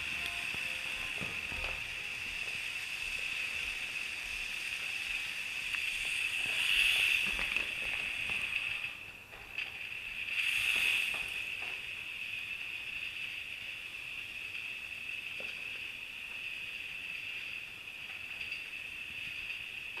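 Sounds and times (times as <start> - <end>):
model train motor whine: 0.0 - 20.0
wheel hiss: 0.0 - 20.0.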